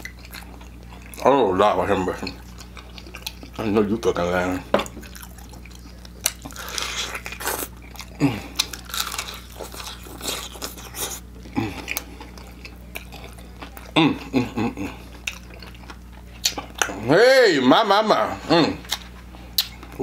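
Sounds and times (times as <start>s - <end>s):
crunching fried chicken: 0.0s - 17.1s.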